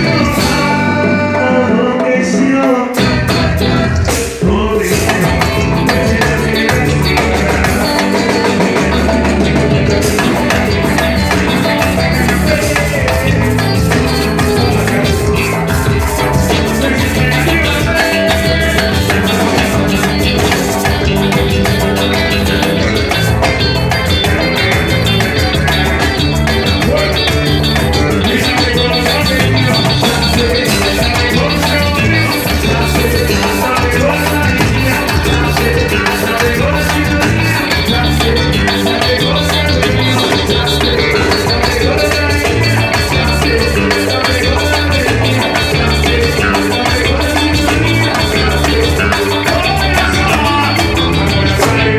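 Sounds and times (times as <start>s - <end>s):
congas and percussion: 0.0s - 51.9s
live band playing: 0.0s - 51.9s
repeating bass line: 0.0s - 51.9s.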